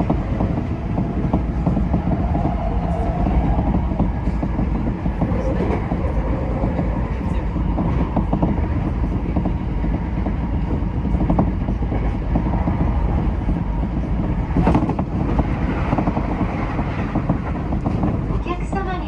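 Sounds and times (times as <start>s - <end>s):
train running rumble: 0.0s - 19.0s
wheels clicking over rail joints: 0.0s - 19.0s.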